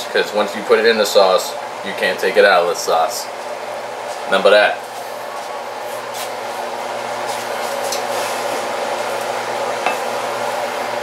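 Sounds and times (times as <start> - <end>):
fan whirring: 0.0 - 11.0.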